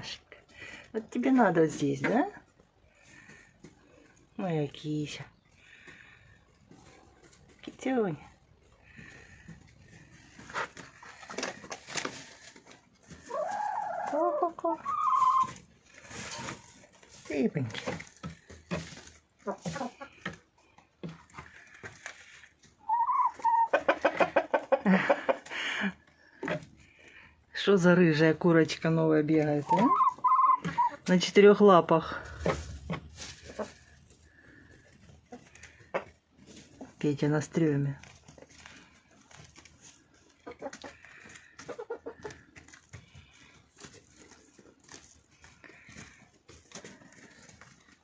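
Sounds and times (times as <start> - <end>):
hens clucking: 1.6 - 27.2, 29.3 - 37.0, 37.6 - 48.0.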